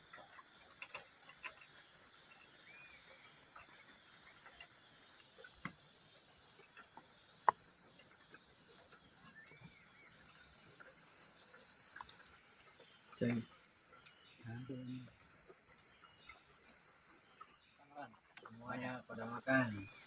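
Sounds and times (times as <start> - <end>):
night insects chorus: 0.0 - 20.0.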